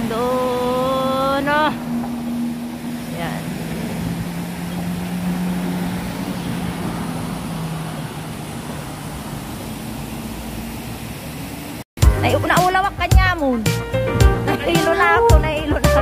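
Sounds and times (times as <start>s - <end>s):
low engine hum: 0.0s - 16.0s
traffic rushing: 0.0s - 16.0s.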